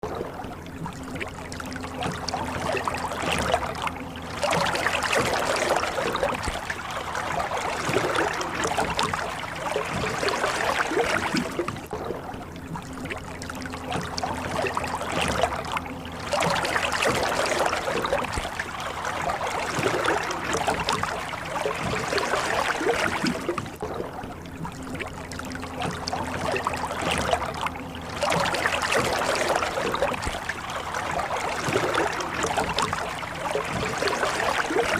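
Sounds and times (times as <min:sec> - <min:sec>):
oars splashing through water: 0:00.0 - 0:34.9
steady low hum: 0:00.0 - 0:34.9.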